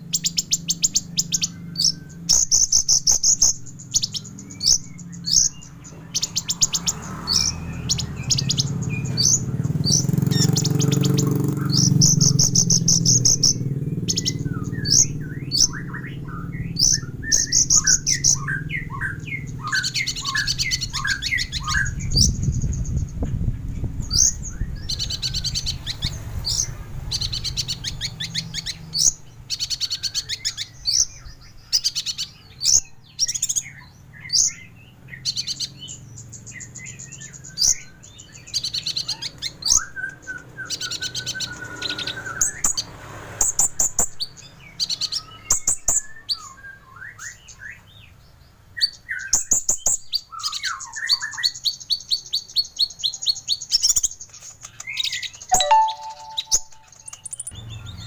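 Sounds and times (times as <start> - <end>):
bird singing trills: 0.0 - 58.0.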